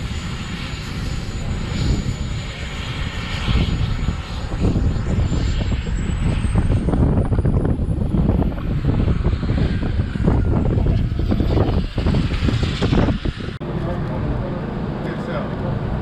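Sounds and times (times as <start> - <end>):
low rumble: 0.0 - 16.0
model jet turbine whine: 0.0 - 16.0.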